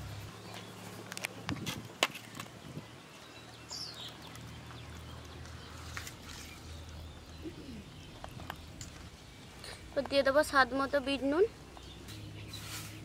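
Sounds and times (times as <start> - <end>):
bird chirp: 2.2 - 13.0.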